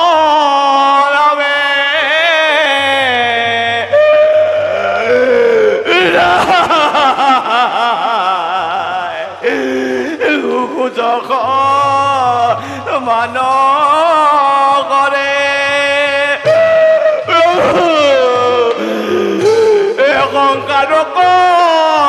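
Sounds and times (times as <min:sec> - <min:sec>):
solo voice chanting: 0:00.0 - 0:22.0.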